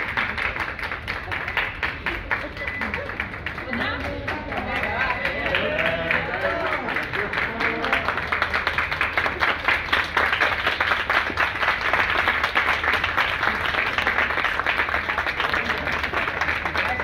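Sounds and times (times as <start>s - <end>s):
audience clapping: 0.0s - 17.0s.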